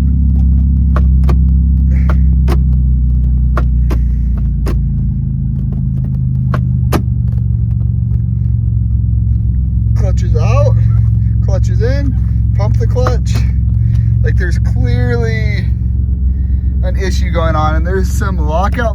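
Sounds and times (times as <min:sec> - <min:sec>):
gear shifter clicks and clunks: 0:00.0 - 0:15.4
car engine idling: 0:00.0 - 0:18.9.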